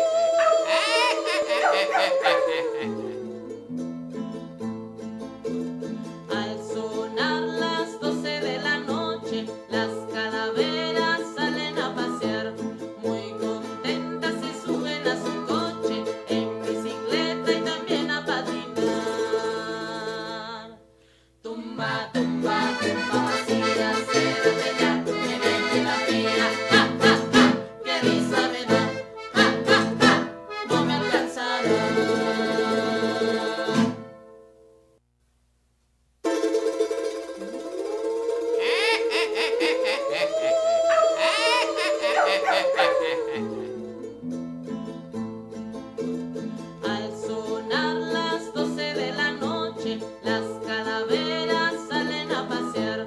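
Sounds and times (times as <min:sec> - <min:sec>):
accordion music with guitar: 0:02.1 - 0:20.2, 0:22.0 - 0:34.4, 0:40.9 - 0:53.0.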